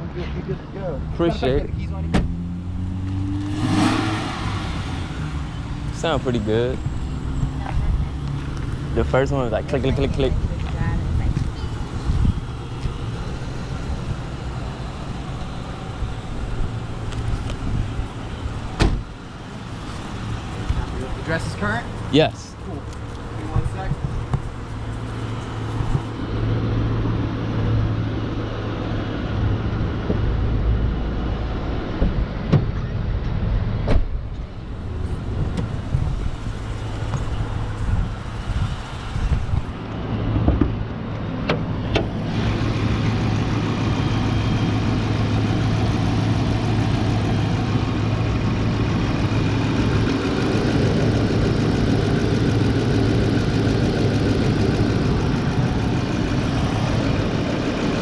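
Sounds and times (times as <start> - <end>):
car engine idling: 0.0 - 30.2, 34.3 - 58.0.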